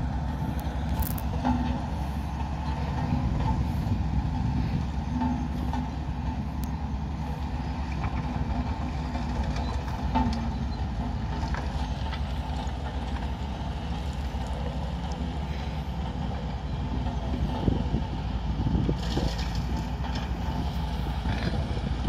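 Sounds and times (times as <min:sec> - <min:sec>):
diesel engines droning: 0:00.0 - 0:22.0.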